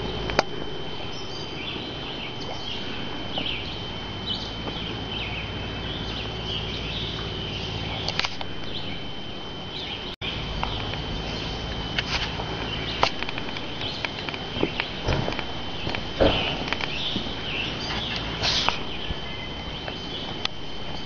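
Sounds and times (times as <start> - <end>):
high-pitched whine: 0.0 - 21.0
low rumble: 0.0 - 21.0.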